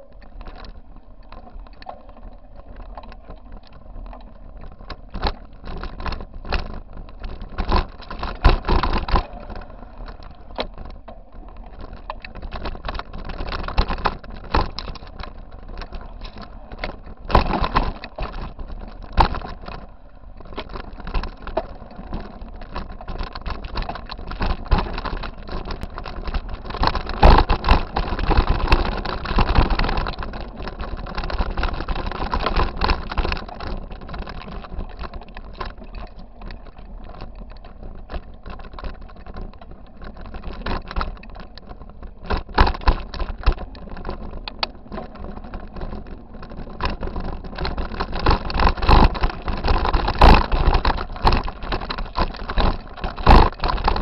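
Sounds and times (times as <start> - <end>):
bike rattling over rocky trail: 0.0 - 54.0.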